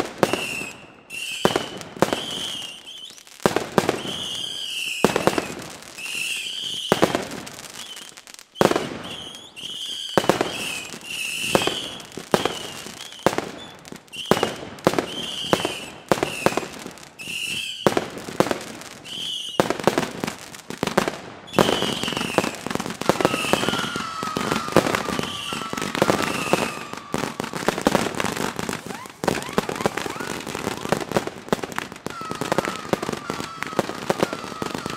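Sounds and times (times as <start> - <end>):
fireworks sharp bangs: 0.0 - 8.0, 8.6 - 34.9.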